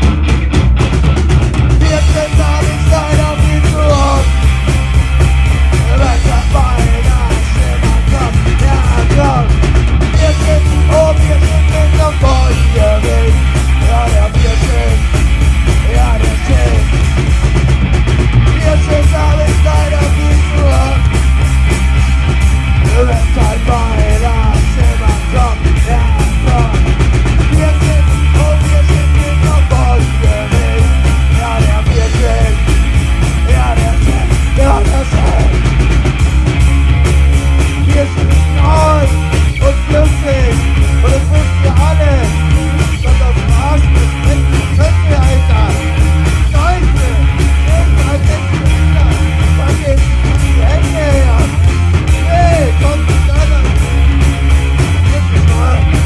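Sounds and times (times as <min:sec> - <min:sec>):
punk rock band playing: 0:00.0 - 0:56.0
person singing and shouting: 0:01.8 - 0:04.7, 0:05.6 - 0:17.2, 0:18.4 - 0:21.2, 0:22.8 - 0:32.8, 0:33.4 - 0:35.8, 0:37.7 - 0:54.3, 0:54.9 - 0:56.0.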